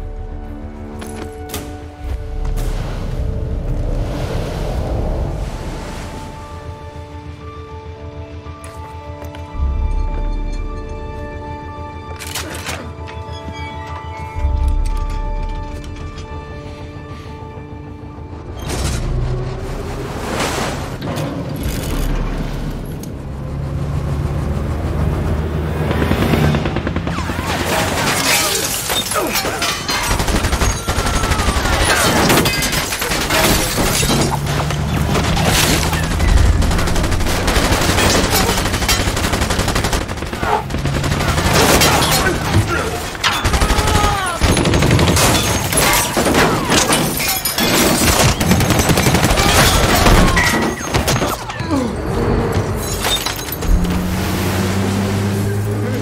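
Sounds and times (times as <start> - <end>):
dramatic music score: 0.0 - 56.0.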